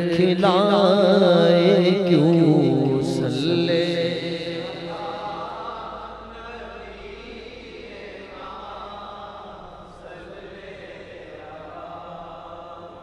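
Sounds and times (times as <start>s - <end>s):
voices chanting softly: 2.1s - 13.0s.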